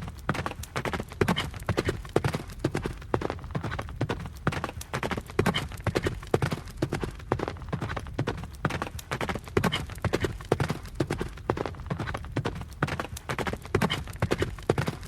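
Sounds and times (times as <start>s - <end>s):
horse hooves galloping: 0.0s - 15.0s.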